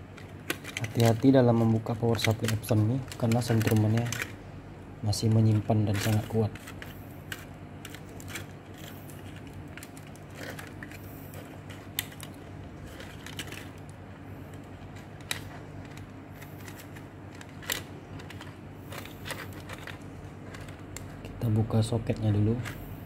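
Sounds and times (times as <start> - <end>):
steady low hum: 0.0 - 23.0
small clicks and rattles of wiring: 0.1 - 4.3, 5.4 - 21.2.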